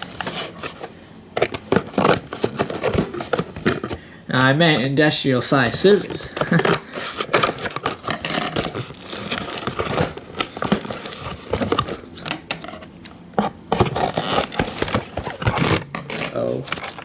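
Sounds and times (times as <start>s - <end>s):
packaging crinkling and tearing: 0.0s - 4.9s, 5.5s - 17.0s
scissors cutting packaging: 0.0s - 4.9s, 5.6s - 17.0s.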